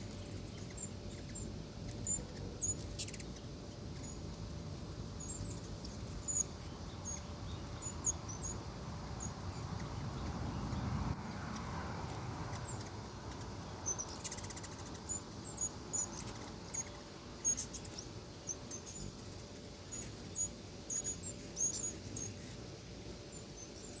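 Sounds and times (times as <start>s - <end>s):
hummingbird chip calls: 0.0s - 10.8s, 12.2s - 24.0s.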